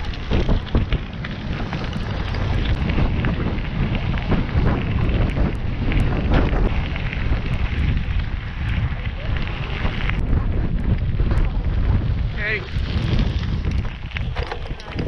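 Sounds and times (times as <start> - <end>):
bicycle tyres crunching on gravel: 0.0 - 15.0
wind rumbling on microphone: 0.0 - 15.0.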